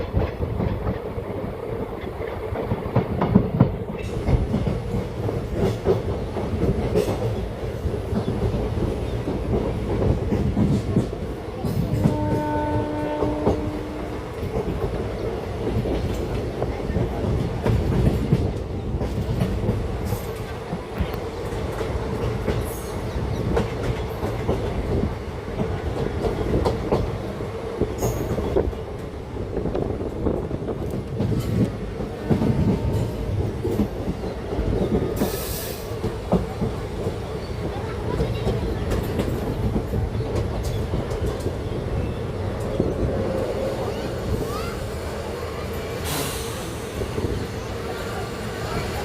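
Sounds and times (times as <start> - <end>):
train rumble: 0.0 - 49.0
train wheels clattering on rails: 0.0 - 49.0.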